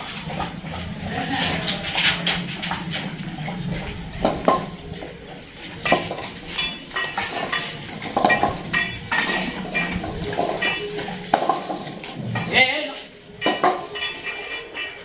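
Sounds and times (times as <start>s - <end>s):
metal bowls clanking on tiles: 0.0s - 15.0s.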